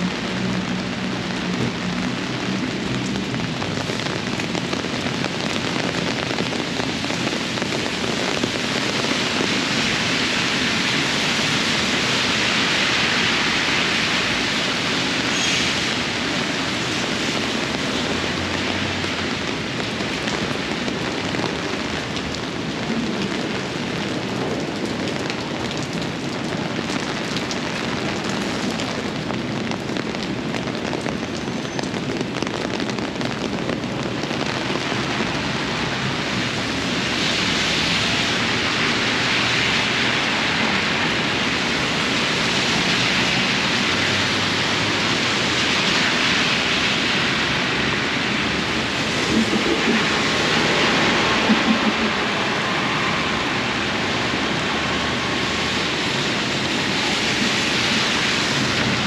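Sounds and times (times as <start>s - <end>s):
rain splashing on surfaces: 0.0s - 59.0s.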